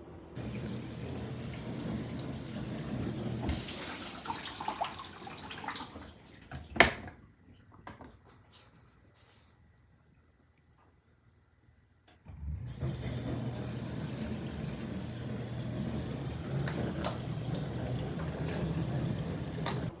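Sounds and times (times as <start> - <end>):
dishwasher running with low hum: 0.0 - 20.0.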